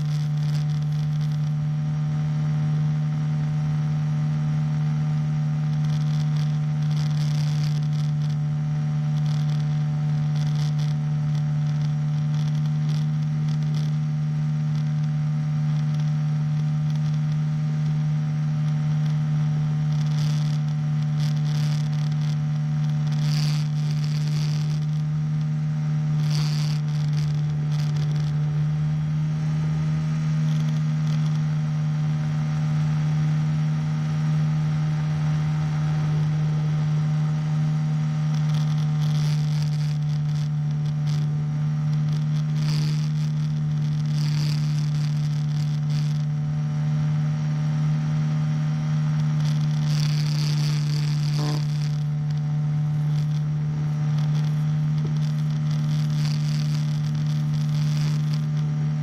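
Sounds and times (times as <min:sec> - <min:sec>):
small engine and propeller drone: 0:00.0 - 0:59.0.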